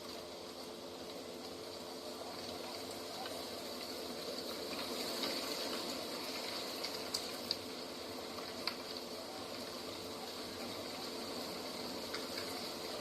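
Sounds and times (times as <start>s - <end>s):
continuous rushing hiss: 0.0s - 13.0s.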